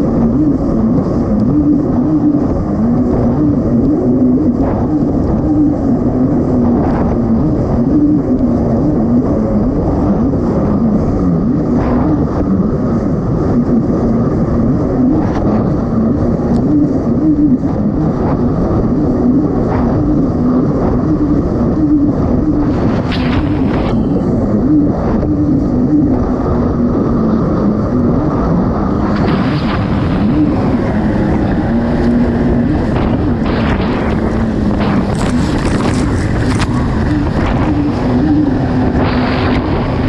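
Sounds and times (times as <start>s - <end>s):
jet ski engine running hard: 0.0s - 40.0s.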